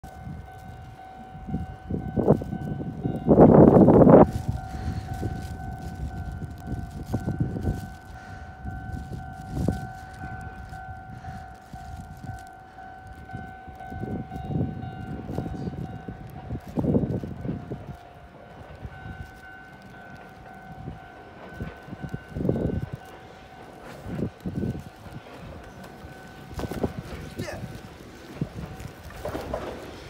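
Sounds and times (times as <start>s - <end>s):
level crossing alarm ringing: 0.1s - 29.3s.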